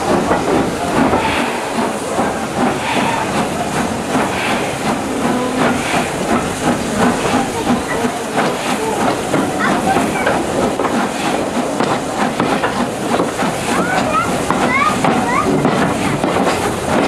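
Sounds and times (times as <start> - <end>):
hiss of steam: 0.0 - 17.0
moving train with regular beat: 0.0 - 17.0.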